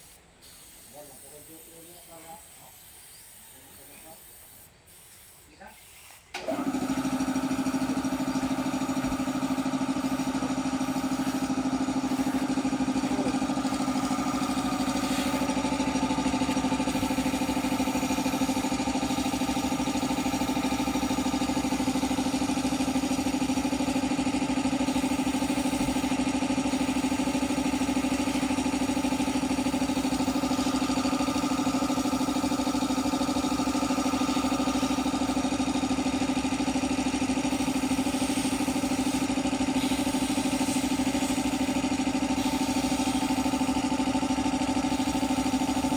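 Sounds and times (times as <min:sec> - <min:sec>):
air compressor humming: 0:00.0 - 0:45.9.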